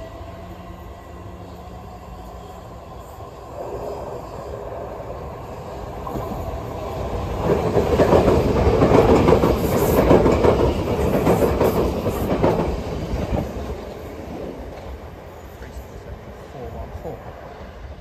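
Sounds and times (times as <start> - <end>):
electric train passing: 0.0 - 18.0
wheels rumbling and clicking on rails: 0.0 - 18.0.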